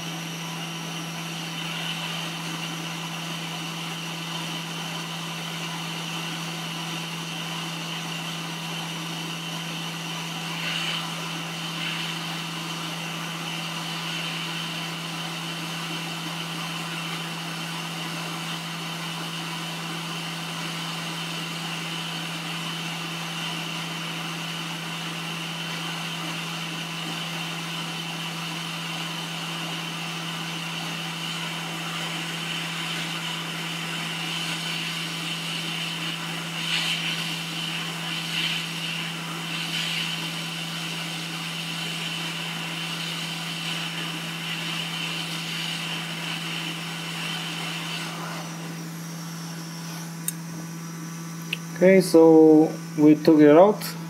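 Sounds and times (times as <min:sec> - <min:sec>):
hot air station fan hum: 0:00.0 - 0:54.0.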